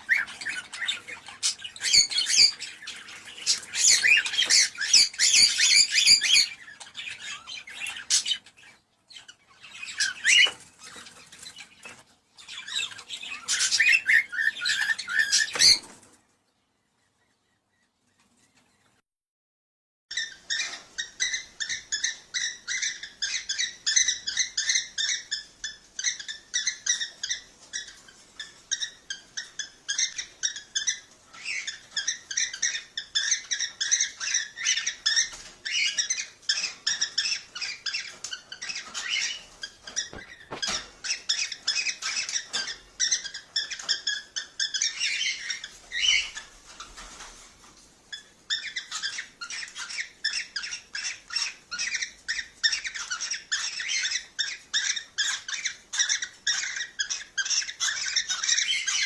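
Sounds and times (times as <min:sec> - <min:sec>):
cockatiels chirping: 0:00.0 - 0:16.1, 0:20.1 - 0:59.0.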